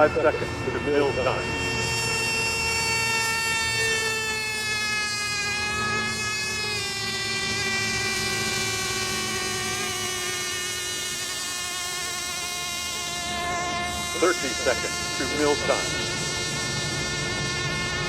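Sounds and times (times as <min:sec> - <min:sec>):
rc boat engines whining: 0:00.0 - 0:18.0.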